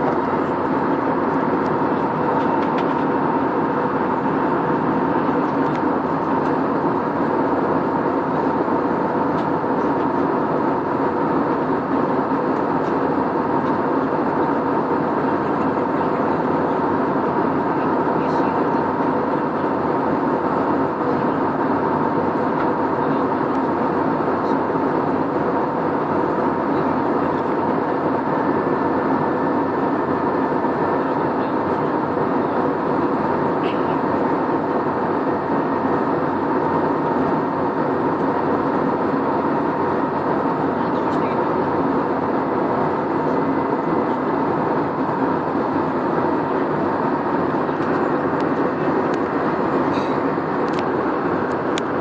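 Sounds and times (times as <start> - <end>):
airliner cabin engine and airflow noise: 0.0 - 52.0.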